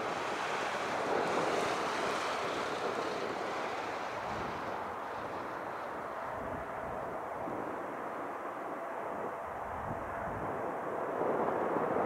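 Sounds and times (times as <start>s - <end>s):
distant jet airliner roar: 0.0s - 12.0s.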